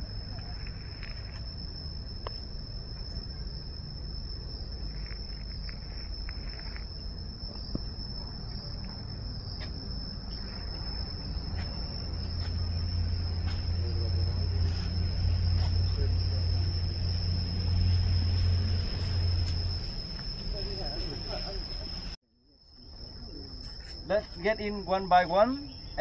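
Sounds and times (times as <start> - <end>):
low rumble: 0.0 - 21.3
insects droning: 0.0 - 26.0.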